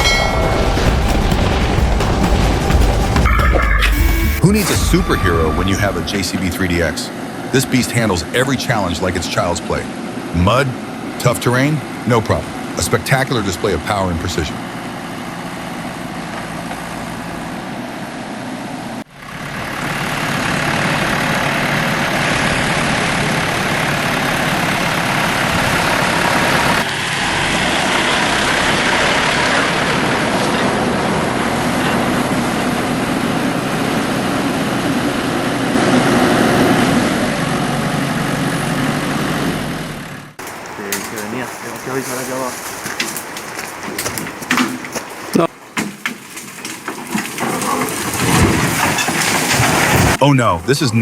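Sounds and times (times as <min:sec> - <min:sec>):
heavy machinery engines running: 0:00.0 - 0:45.7.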